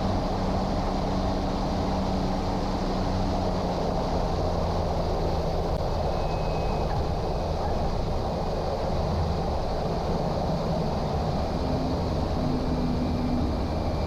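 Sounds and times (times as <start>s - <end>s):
turboprop engine drone: 0.0s - 14.0s.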